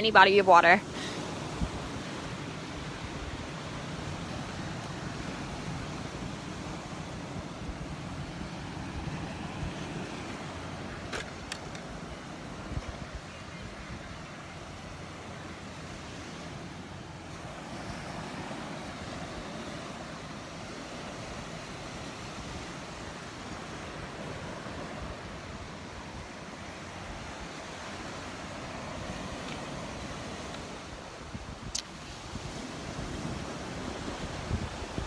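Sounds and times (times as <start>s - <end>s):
surf washing onto beach: 0.0s - 35.0s.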